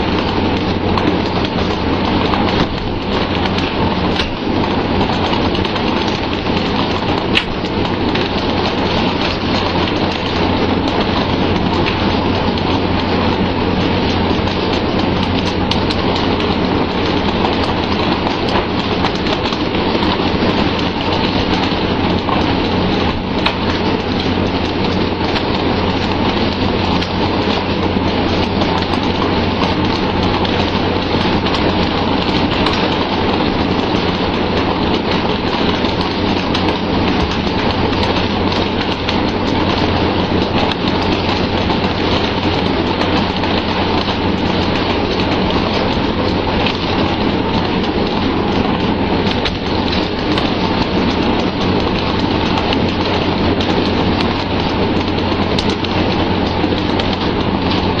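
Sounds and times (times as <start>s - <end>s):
boat engine hum: 0.0s - 58.0s.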